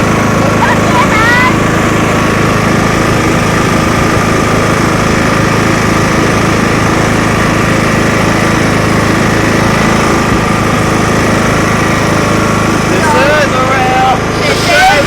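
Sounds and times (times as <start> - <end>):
lawnmower engine running: 0.0 - 15.0.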